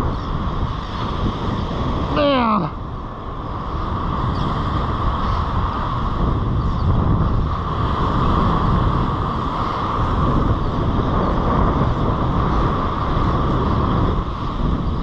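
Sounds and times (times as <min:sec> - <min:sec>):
surf washing up beach: 0:00.0 - 0:15.0
wind buffeting microphone: 0:00.0 - 0:15.0.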